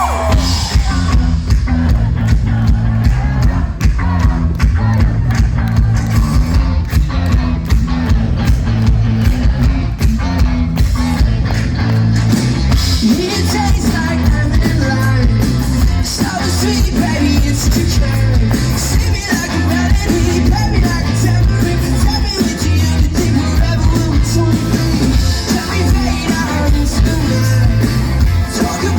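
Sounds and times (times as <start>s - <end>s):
bass guitar: 0.0s - 28.9s
electric guitar: 0.0s - 28.9s
steady drumbeat: 0.0s - 28.9s.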